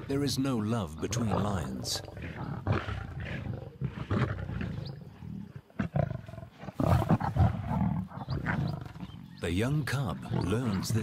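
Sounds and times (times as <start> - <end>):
lions growling and snarling: 0.0 - 11.0.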